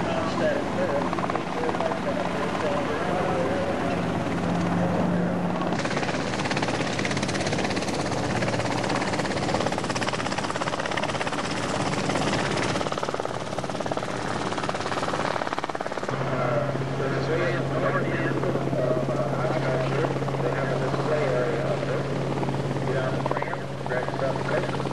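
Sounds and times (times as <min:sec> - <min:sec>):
aircraft engine running: 0:00.0 - 0:24.9.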